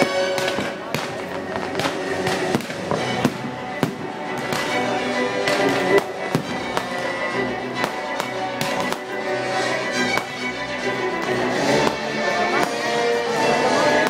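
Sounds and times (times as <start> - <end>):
fireworks bangs and crackles: 0.0 - 14.0
music with long held notes: 0.0 - 14.0.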